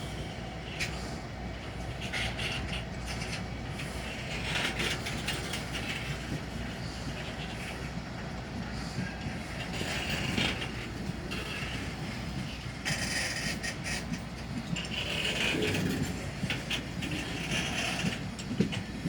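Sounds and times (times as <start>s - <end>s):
train wagons rumbling: 0.0s - 19.0s.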